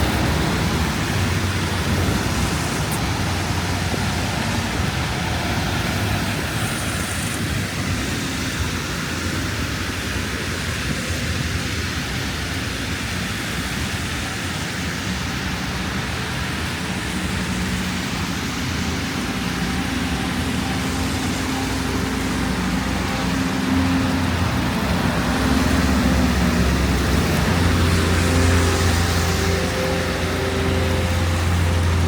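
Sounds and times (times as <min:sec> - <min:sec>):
city street traffic: 0:00.0 - 0:32.0
vehicle engine hum: 0:00.0 - 0:32.0
wind and road noise: 0:00.0 - 0:32.0.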